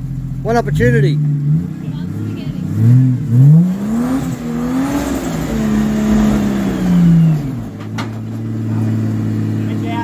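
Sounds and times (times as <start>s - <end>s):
off-road engine revving: 0.0s - 10.0s.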